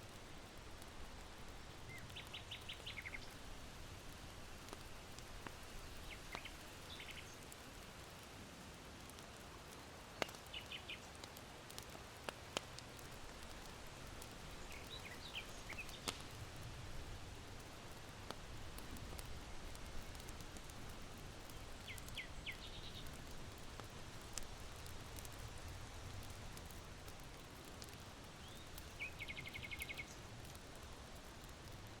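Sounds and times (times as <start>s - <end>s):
charcoal fire crackling: 0.0s - 32.0s
wind in bamboo: 0.0s - 32.0s
small birds chirping: 0.1s - 7.7s, 10.0s - 11.8s, 12.5s - 16.5s, 17.6s - 24.5s, 25.2s - 30.9s.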